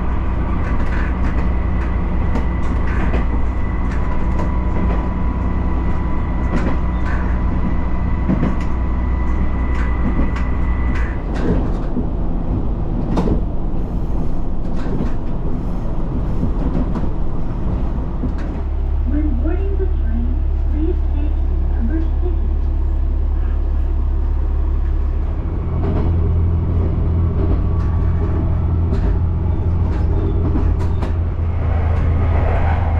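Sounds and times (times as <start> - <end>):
diesel railcar rumbling: 0.0 - 32.9.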